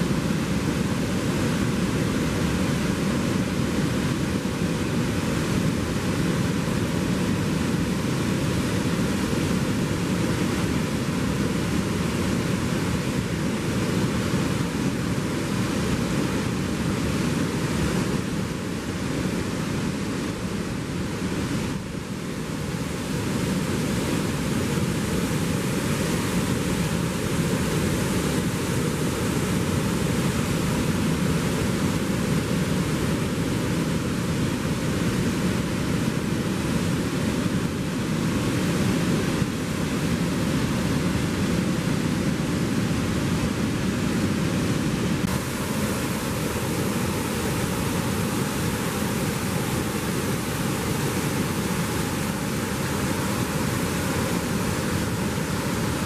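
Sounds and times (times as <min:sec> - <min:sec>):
water rushing over dam: 0:00.0 - 0:56.0.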